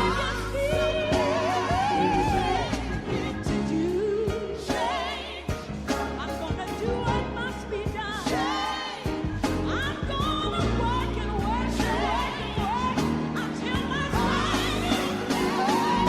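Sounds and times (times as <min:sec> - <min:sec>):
choir singing: 0:00.0 - 0:06.2, 0:08.2 - 0:09.6, 0:10.6 - 0:16.0
band with bass and drums: 0:00.0 - 0:16.0.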